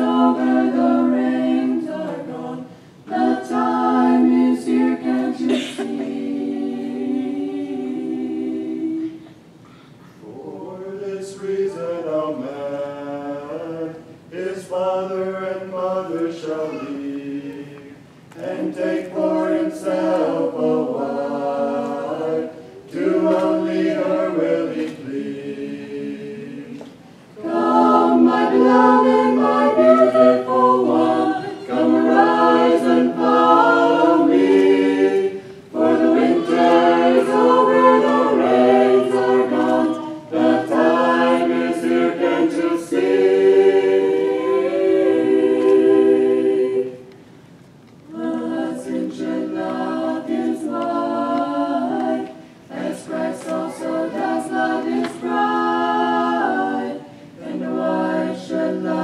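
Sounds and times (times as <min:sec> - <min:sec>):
vocal ensemble singing a cappella: 0:00.0 - 0:59.0.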